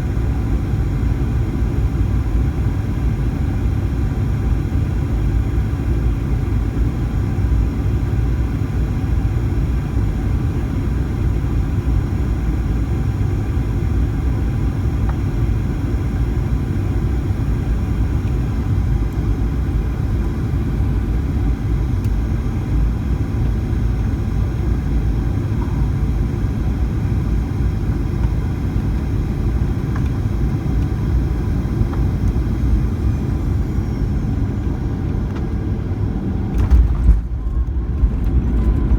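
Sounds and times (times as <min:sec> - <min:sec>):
airplane cabin engine roar: 0:00.0 - 0:38.9
faint steady whines: 0:00.0 - 0:38.9.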